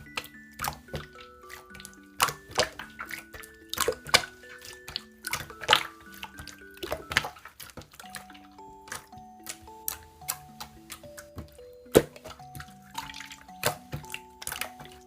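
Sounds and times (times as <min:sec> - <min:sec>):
background music of held notes: 0:00.0 - 0:15.0
slime squished by hand: 0:00.0 - 0:15.0.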